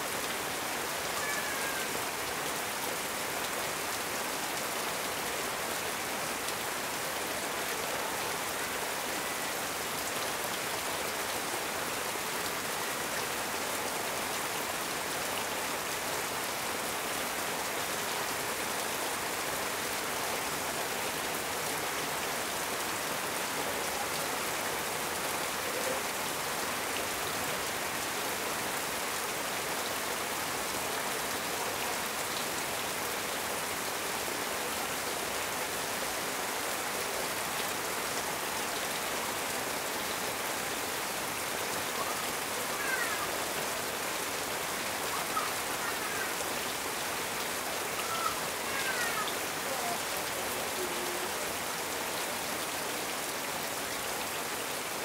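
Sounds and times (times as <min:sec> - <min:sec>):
heavy rain on metal roof: 0:00.0 - 0:55.0.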